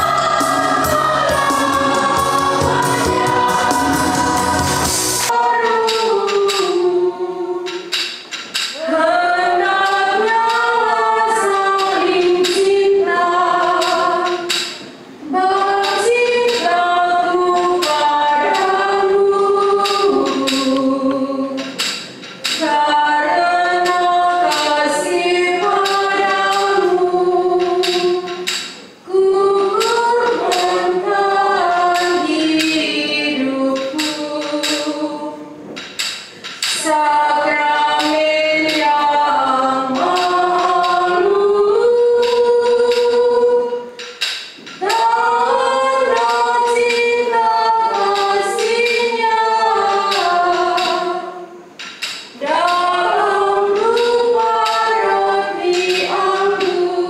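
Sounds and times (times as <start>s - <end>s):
church choir singing a hymn: 0.0s - 8.0s, 8.8s - 35.8s, 36.6s - 44.0s, 44.8s - 51.8s, 52.4s - 57.0s.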